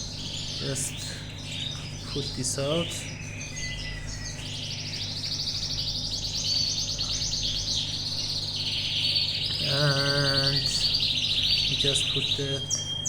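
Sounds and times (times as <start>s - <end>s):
canary singing trills: 0.0s - 13.0s.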